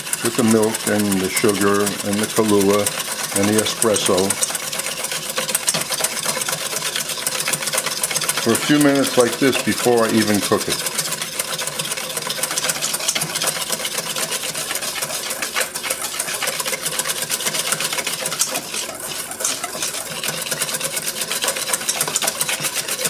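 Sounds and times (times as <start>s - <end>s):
whisk clattering in metal pan: 0.0s - 23.0s.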